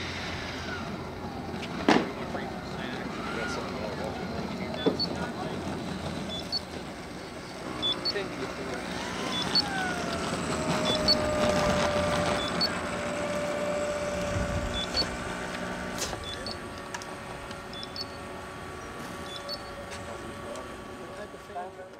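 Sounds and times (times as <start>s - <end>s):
ducted fan jet whining: 0.0s - 21.9s.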